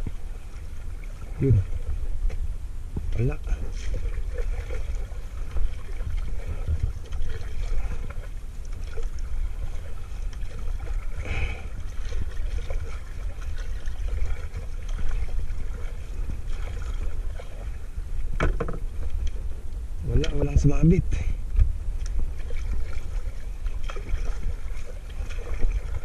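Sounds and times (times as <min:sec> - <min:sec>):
low uneven rumble: 0:00.0 - 0:26.0
water lapping against hull: 0:00.0 - 0:26.0.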